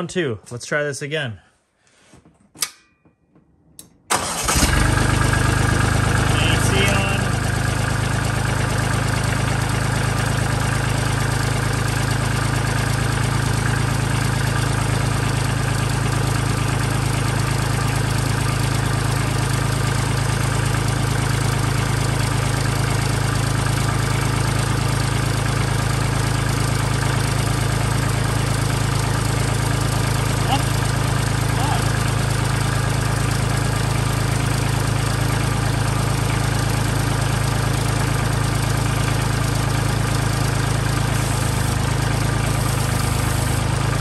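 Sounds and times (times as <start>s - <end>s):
tractor diesel engine idling: 4.1s - 44.0s.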